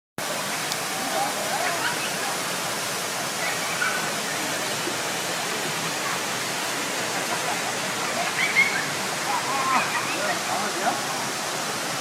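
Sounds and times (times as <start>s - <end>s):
stream rushing over rocks: 0.2s - 12.0s.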